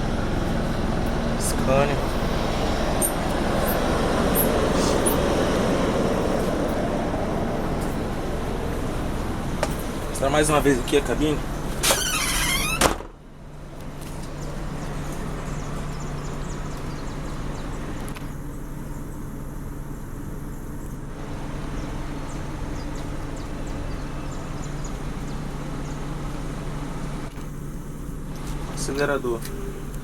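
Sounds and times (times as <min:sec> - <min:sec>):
bus diesel engine idling: 0:00.0 - 0:30.0.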